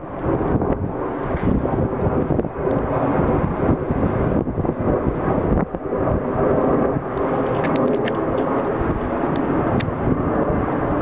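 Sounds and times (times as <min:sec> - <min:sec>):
jet airliner flying overhead: 0:00.0 - 0:11.0.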